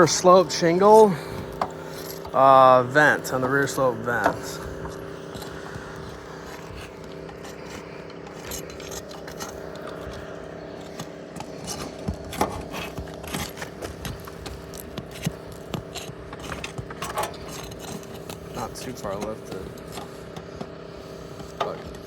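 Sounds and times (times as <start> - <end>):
steady low hum: 0.0 - 22.0
tool scraping roof shingles: 0.0 - 22.0.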